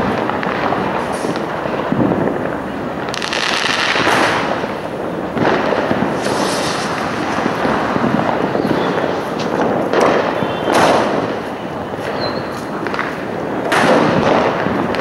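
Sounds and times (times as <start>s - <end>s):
firecracker bangs and crackle: 0.0s - 15.0s
rockets launching and bursting: 0.0s - 15.0s.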